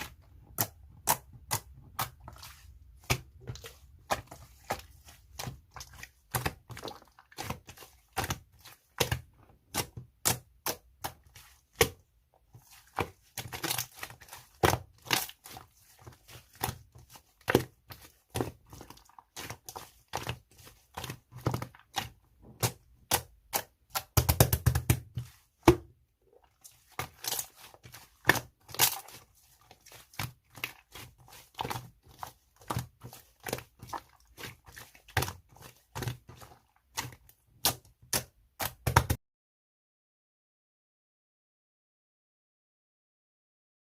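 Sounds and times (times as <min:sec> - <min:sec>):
slime squelching: 0:00.0 - 0:39.2.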